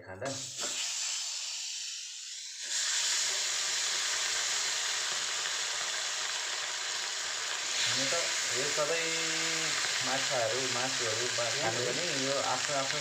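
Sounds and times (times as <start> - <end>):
fish sizzling in hot oil: 0.3 - 13.0.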